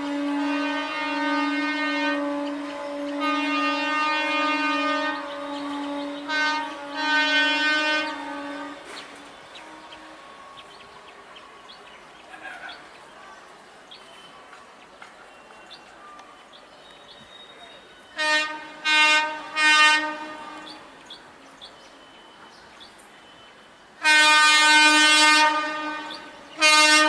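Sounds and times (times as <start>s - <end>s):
train horn blast: 0.0s - 12.8s, 16.9s - 27.0s.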